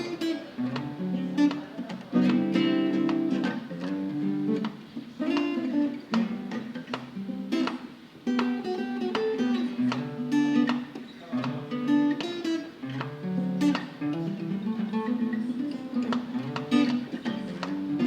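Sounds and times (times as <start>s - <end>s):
guitar picking a melody: 0.0s - 18.0s.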